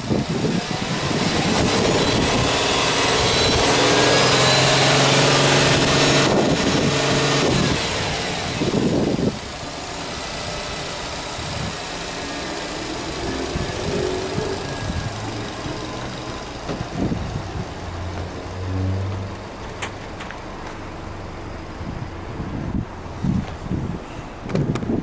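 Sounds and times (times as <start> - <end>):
car engine droning then idling: 0.0 - 25.0.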